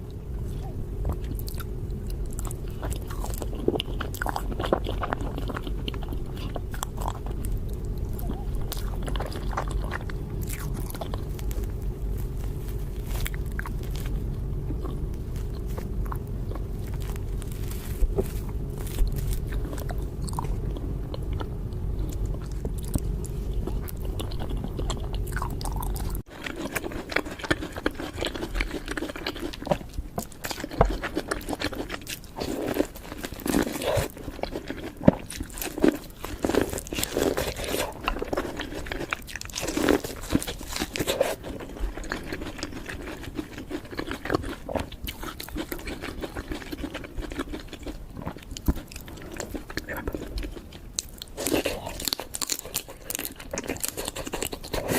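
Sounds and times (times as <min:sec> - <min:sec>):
crunchy food being chewed: 0:00.0 - 0:54.9
steady low hum: 0:00.0 - 0:54.9.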